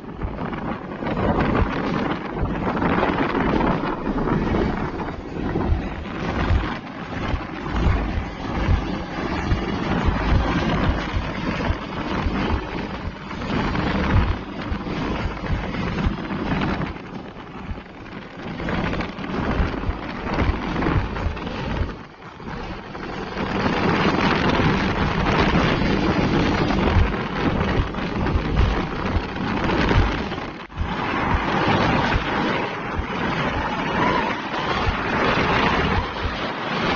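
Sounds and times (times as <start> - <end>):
heavy trucks roaring: 0.0 - 36.9
wind buffeting microphone: 0.0 - 36.9.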